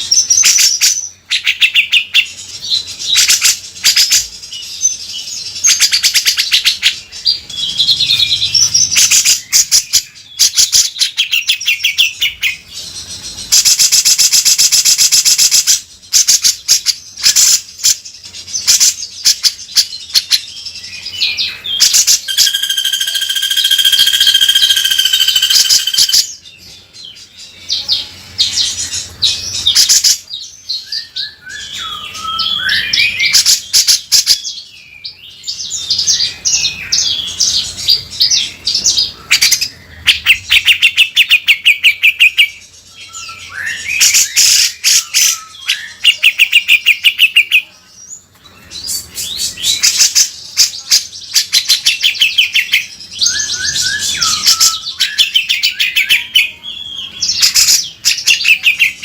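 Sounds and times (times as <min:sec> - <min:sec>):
bird singing harsh chattering phrases: 0:00.0 - 0:59.0.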